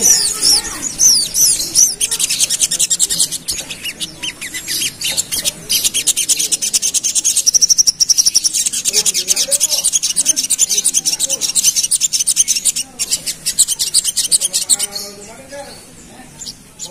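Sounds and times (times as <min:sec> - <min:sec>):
bird singing rapid high chatter: 0:00.0 - 0:16.9.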